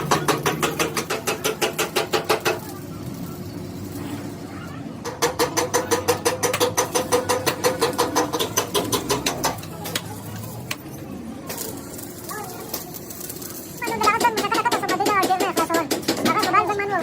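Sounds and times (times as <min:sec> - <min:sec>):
rapid metallic clatter: 0:00.0 - 0:17.0.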